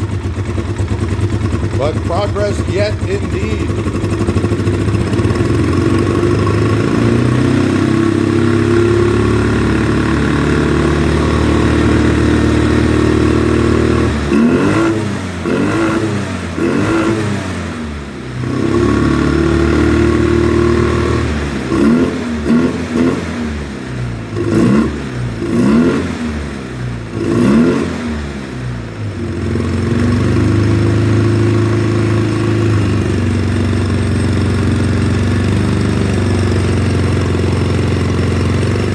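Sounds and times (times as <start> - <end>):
atv engine running rough: 0.0 - 38.9.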